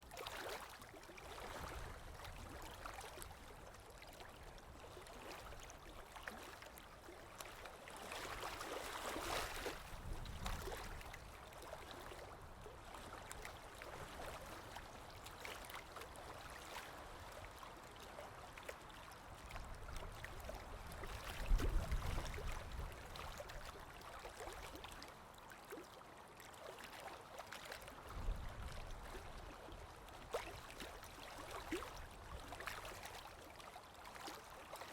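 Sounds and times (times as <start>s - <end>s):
stream water trickling: 0.0s - 34.9s.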